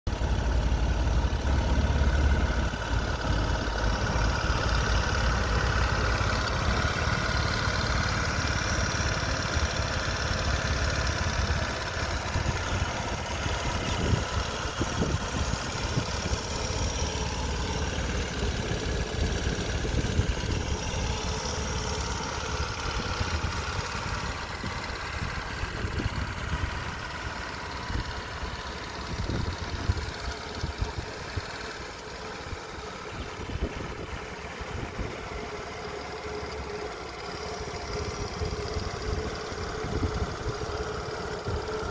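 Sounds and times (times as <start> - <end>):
scooter engine idling: 0.1 - 41.9.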